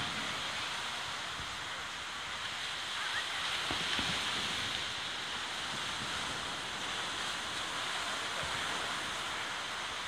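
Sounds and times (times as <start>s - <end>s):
ocean surf on a beach: 0.0s - 10.0s.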